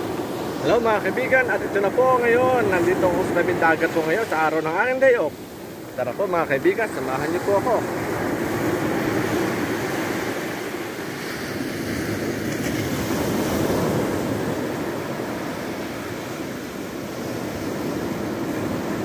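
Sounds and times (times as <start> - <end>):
small waves washing on sand: 0.0 - 19.0.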